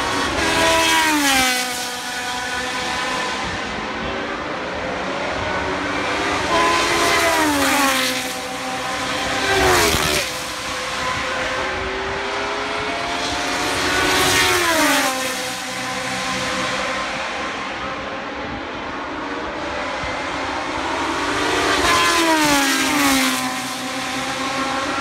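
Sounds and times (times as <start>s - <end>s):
race cars passing at speed: 0.0s - 25.0s.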